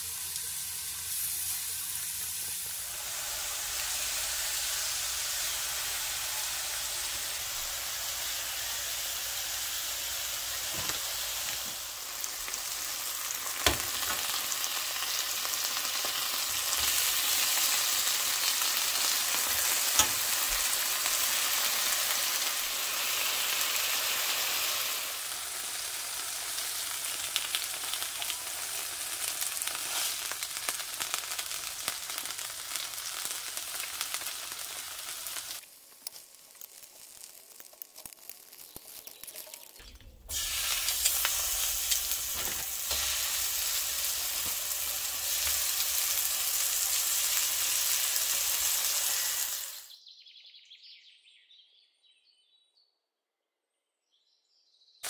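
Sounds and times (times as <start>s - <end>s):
chicken sizzling in hot oil: 0.0s - 50.0s.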